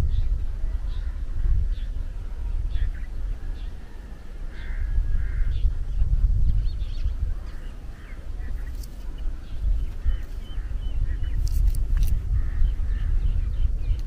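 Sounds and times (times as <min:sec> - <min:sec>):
harsh bird calls: 0:00.0 - 0:14.0
wind rumble on microphone: 0:00.0 - 0:14.0.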